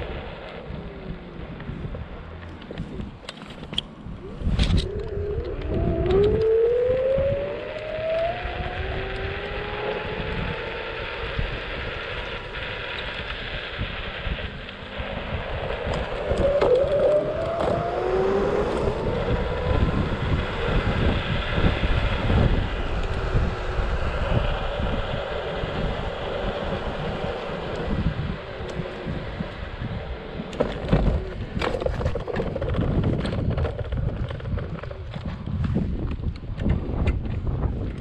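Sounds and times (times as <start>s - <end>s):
scooter engine accelerating: 0.0s - 38.0s
wind rumble on microphone: 0.0s - 38.0s.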